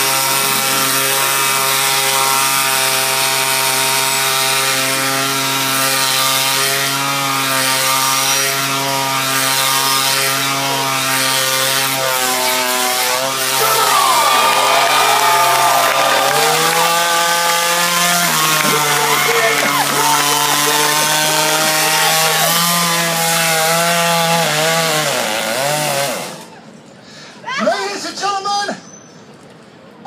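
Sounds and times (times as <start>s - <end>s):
chainsaw engine running: 0.0s - 26.5s.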